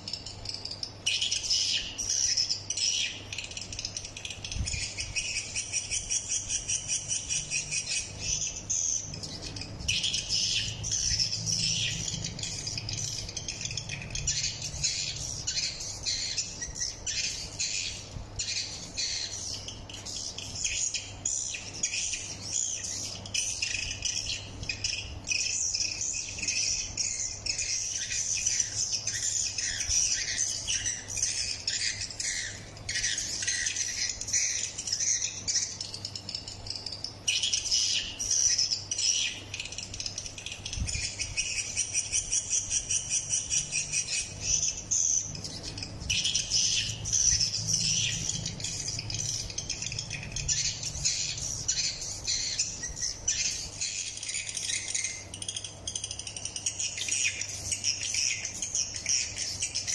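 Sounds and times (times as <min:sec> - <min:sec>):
high twittering bird chirps: 0:00.0 - 0:59.9
low steady hum: 0:00.0 - 0:59.9.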